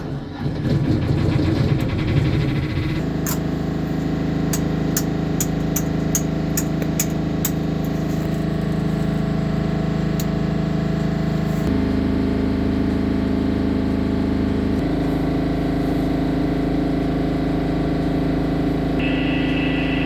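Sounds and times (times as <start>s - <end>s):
engine running hum: 0.0s - 20.0s.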